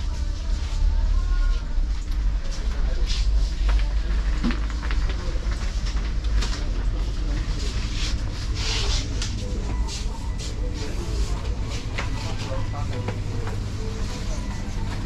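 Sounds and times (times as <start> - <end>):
faint voices of shoppers: 0.0 - 15.0.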